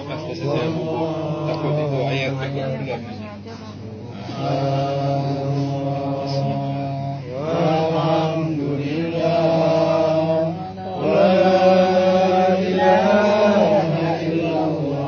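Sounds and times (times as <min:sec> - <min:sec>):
men chanting in long notes: 0:00.0 - 0:03.0, 0:03.9 - 0:15.0.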